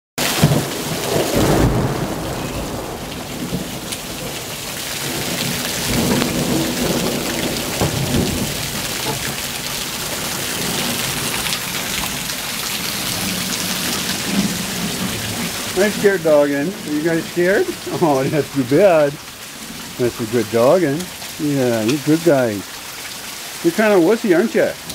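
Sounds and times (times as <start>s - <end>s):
thunder rumbling: 0.2s - 22.9s
heavy rain splashing into puddles: 0.2s - 24.9s.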